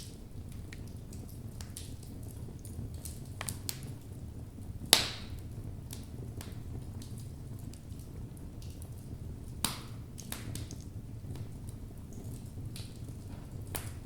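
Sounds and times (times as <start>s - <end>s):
loud crack of burning wood: 0.0s - 14.0s
wood fire crackling: 0.0s - 14.0s.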